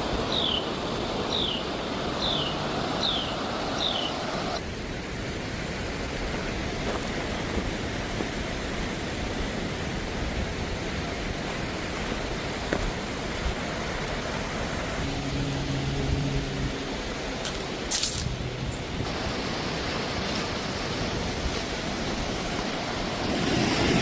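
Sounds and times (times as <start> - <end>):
flooded river rushing: 0.0 - 24.0.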